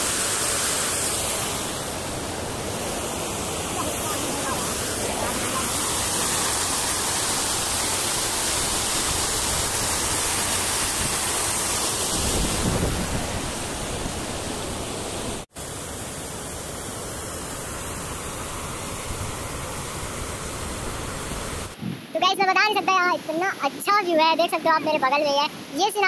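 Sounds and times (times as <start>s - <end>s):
water cascading over rocks: 0.0s - 21.8s.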